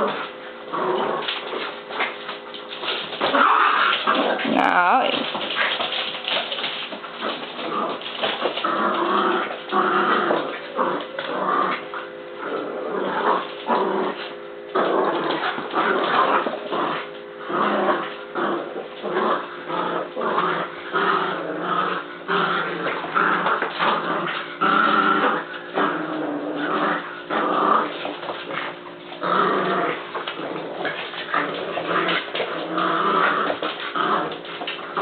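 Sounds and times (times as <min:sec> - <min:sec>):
puppies play-growling: 0:00.0 - 0:35.0.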